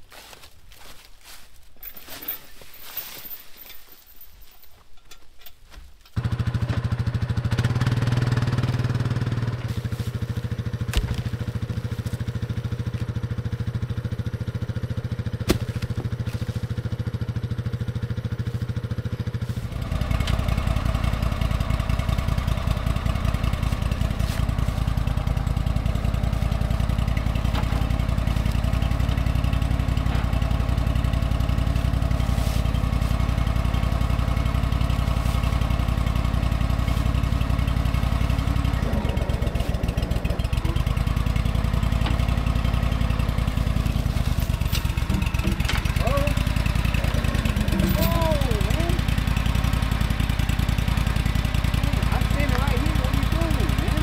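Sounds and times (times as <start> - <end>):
atv engine running: 6.1 - 54.0
loader engine idling: 6.2 - 54.0.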